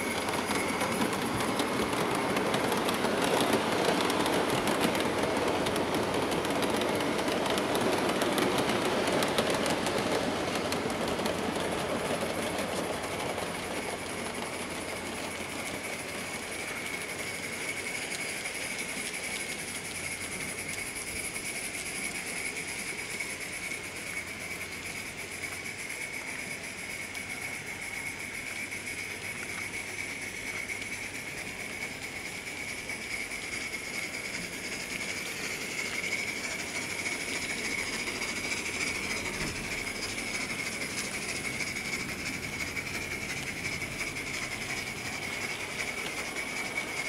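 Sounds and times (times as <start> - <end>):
train wheels clicking over track: 0.0 - 47.0.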